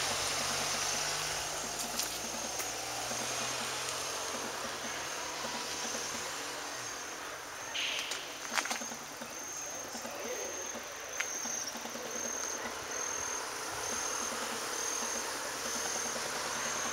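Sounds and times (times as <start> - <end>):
insect chirping: 0.0 - 16.9
outdoor hiss: 0.0 - 16.9.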